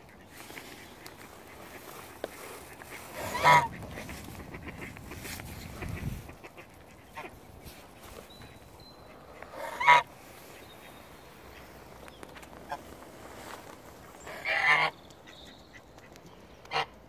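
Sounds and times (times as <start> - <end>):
geese honking: 0.0 - 12.0, 12.6 - 15.0, 16.6 - 17.0.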